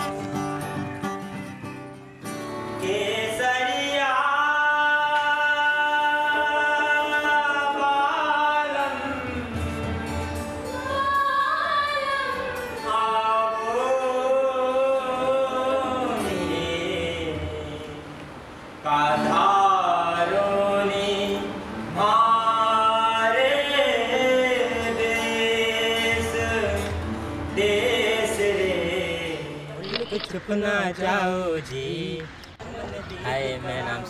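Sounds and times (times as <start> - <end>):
acoustic guitar strumming: 0.0 - 18.2, 19.1 - 32.2
person singing folk song: 2.6 - 32.4.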